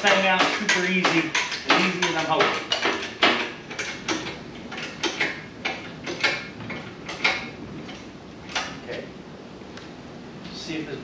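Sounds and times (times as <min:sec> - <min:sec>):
engine hoist clicking: 0:00.0 - 0:08.8.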